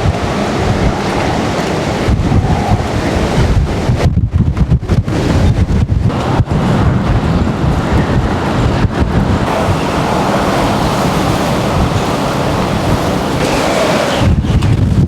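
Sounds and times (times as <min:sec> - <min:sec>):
strong wind gusting: 0:00.0 - 0:15.0
wind buffeting microphone: 0:00.0 - 0:15.0.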